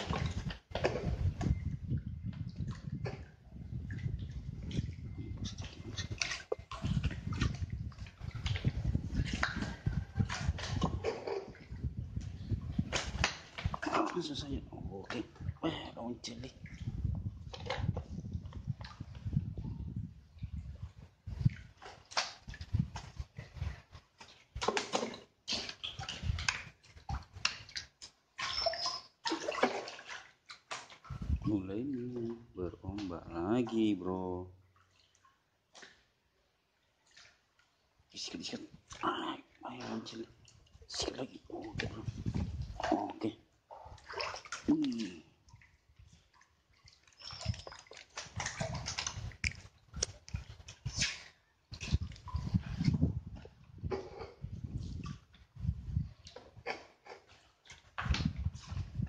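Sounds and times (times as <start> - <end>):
water splashing: 0.0 - 19.6, 20.4 - 55.5.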